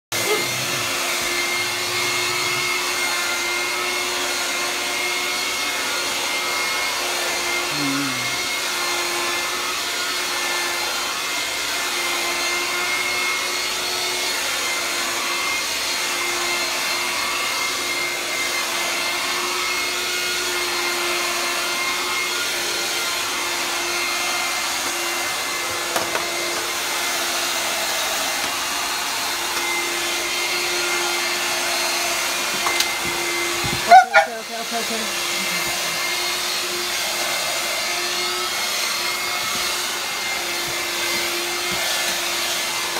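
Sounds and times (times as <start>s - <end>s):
handheld vacuum cleaner whining: 0.1s - 42.9s.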